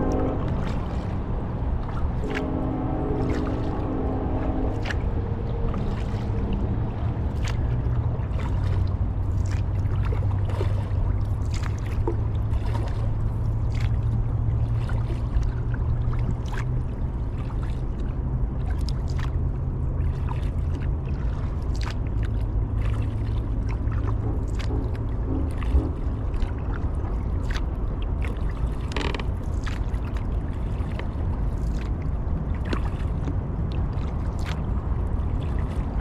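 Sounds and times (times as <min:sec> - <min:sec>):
low rumble: 0:00.0 - 0:36.0
paddle splashes and drips: 0:00.0 - 0:36.0.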